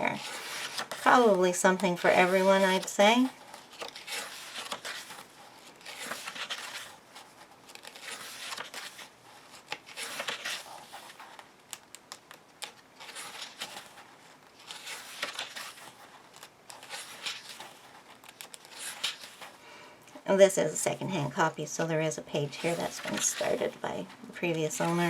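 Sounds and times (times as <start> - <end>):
book pages turning: 0.0 - 19.6, 22.4 - 25.0.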